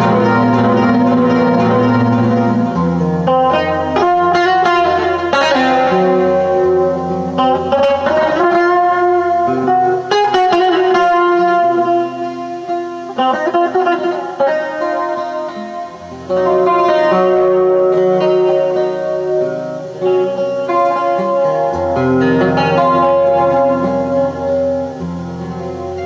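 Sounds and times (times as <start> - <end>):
guitar played through effects: 0.0 - 26.0.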